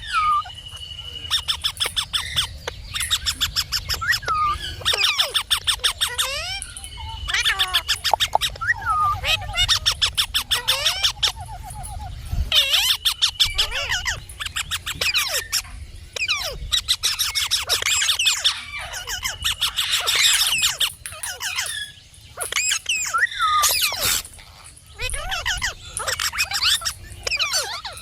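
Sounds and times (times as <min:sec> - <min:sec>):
parrot squawking and whistling: 0:00.0 - 0:28.0.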